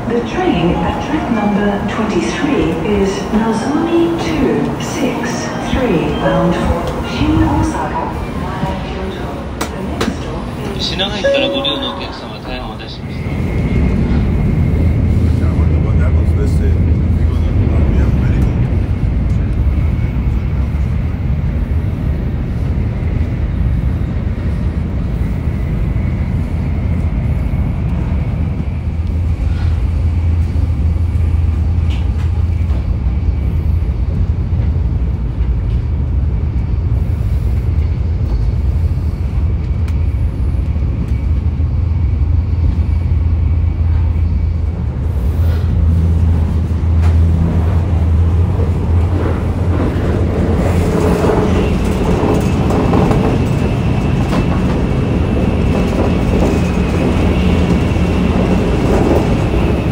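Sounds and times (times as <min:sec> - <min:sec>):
train rumble inside passenger car: 0:00.0 - 0:59.9.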